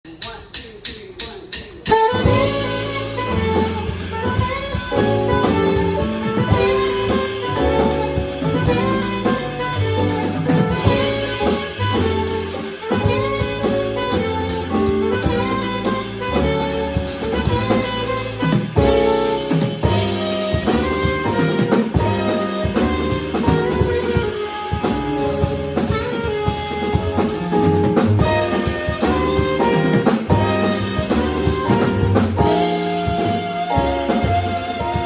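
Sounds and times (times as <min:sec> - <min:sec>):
drum kit: 0:00.0 - 0:35.0
piano: 0:01.9 - 0:35.0
saxophone melody: 0:01.9 - 0:35.0
upright bass: 0:01.9 - 0:35.0.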